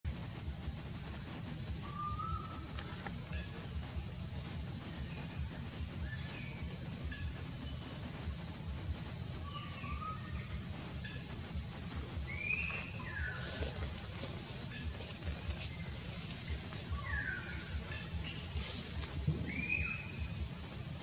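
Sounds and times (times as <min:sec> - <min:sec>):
high-pitched insect drone: 0:00.1 - 0:21.0.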